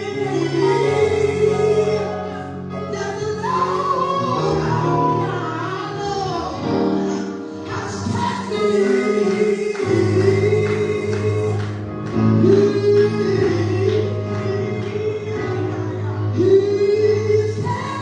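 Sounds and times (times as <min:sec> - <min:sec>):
gospel singing: 0:00.0 - 0:18.0
low steady accompaniment: 0:00.0 - 0:18.0.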